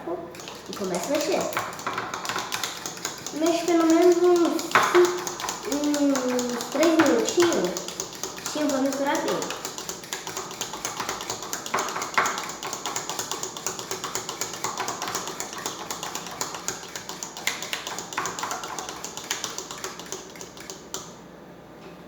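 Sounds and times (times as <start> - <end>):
fork beating eggs in bowl: 0.3 - 21.2.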